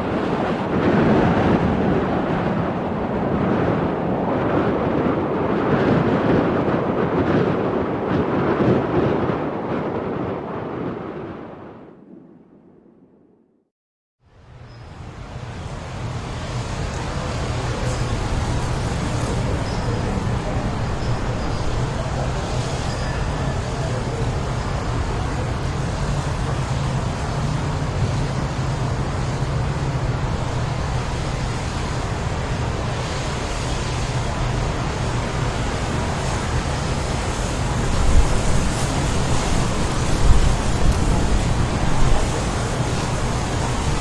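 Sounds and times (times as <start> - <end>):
strong wind rumbling: 0.0 - 13.7, 14.9 - 44.0.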